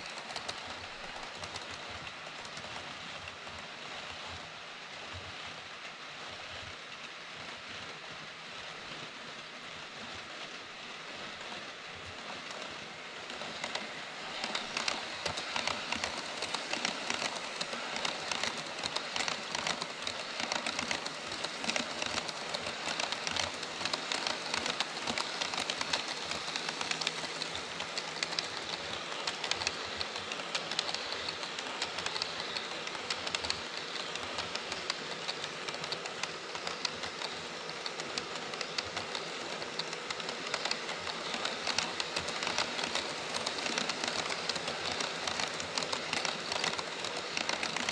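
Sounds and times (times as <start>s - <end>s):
model train wheels on rails: 0.0s - 47.9s.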